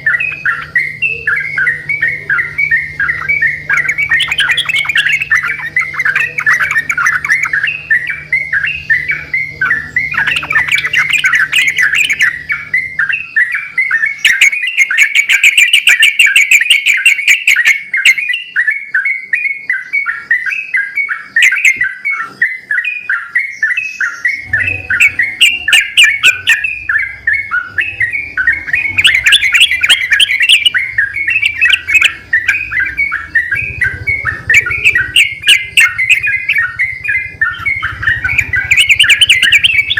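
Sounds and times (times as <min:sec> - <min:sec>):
birds singing and chattering: 0:00.0 - 0:39.9
faint low hum: 0:00.0 - 0:39.9.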